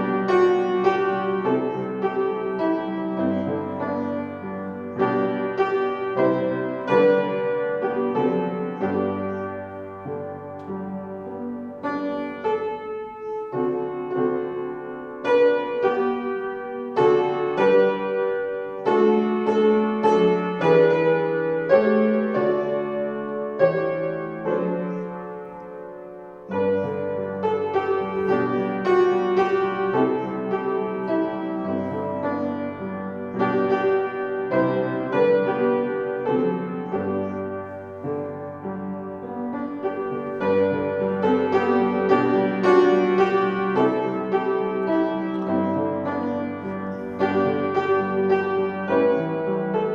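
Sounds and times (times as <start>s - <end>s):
slow solo piano piece: 0.0s - 49.9s.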